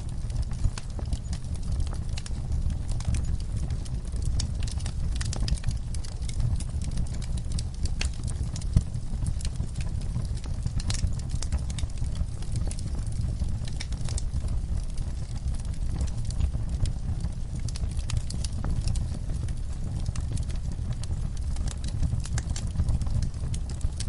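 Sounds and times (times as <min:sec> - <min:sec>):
fire snapping and popping: 0:00.0 - 0:24.0
low rumble of flames: 0:00.0 - 0:24.0.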